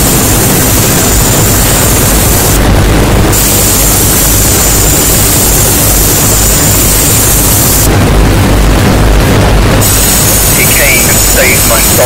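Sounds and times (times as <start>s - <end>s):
harsh distorted noise music: 0.0s - 12.0s.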